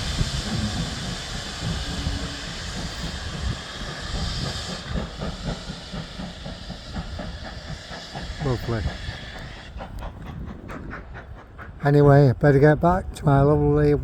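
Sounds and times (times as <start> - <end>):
low uneven rumble: 0.0 - 12.8
steam hissing: 0.0 - 13.3.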